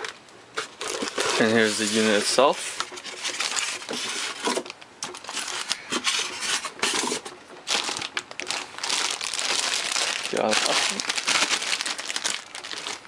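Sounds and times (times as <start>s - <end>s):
packaging rustling and knocking: 0.0s - 13.0s.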